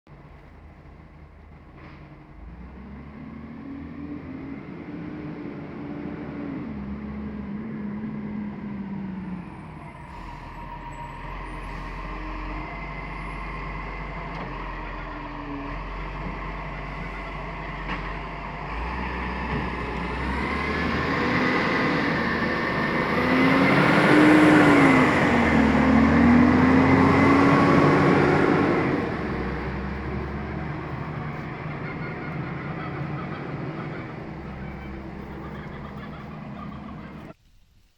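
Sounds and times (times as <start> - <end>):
garbage truck engine revving: 1.4 - 37.4.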